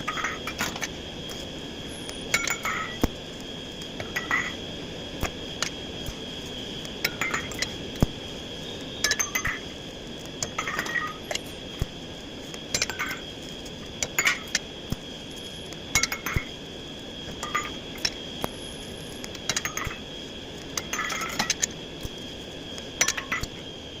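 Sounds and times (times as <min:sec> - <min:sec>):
high-pitched whine: 0:00.0 - 0:24.0.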